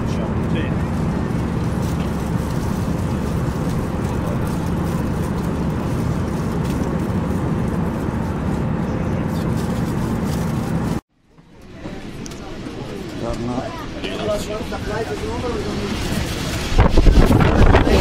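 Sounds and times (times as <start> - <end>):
jet airliner cabin roar: 0.0 - 11.0, 11.8 - 18.0.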